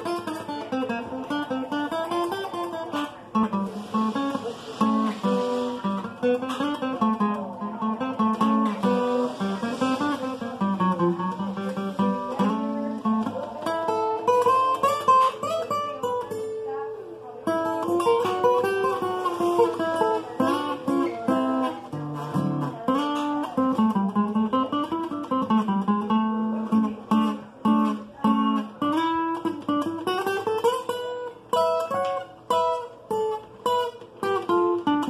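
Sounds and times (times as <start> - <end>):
acoustic guitar blues: 0.0 - 35.0.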